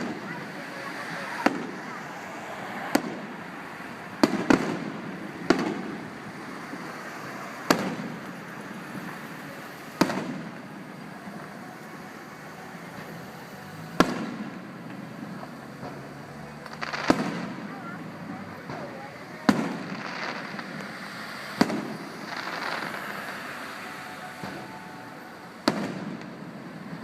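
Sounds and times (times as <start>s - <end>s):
fireworks bangs echoing: 0.0s - 27.0s.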